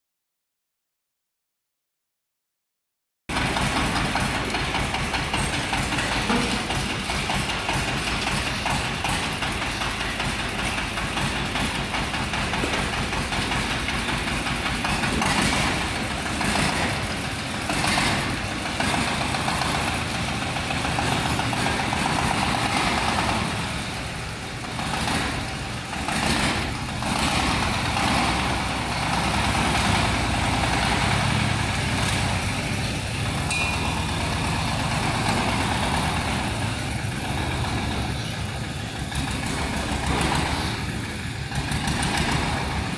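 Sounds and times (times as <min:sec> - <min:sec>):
small tractor engine idling: 0:03.3 - 0:42.9.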